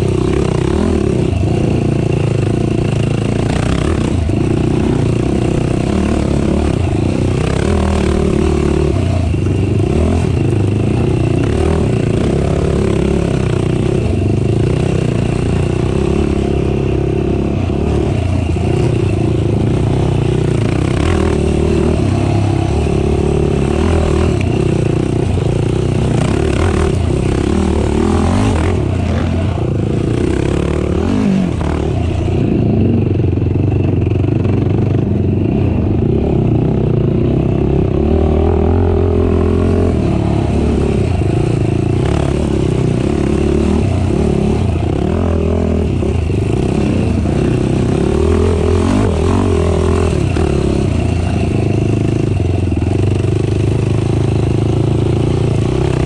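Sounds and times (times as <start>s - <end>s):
atv engine running hard: 0.0s - 56.0s.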